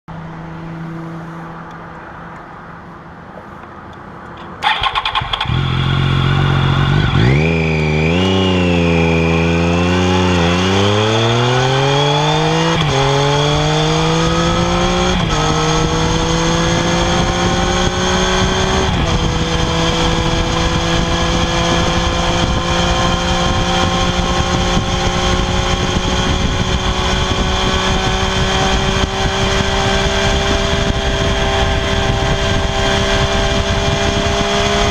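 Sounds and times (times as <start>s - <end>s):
motorcycle engine running: 4.6s - 34.9s.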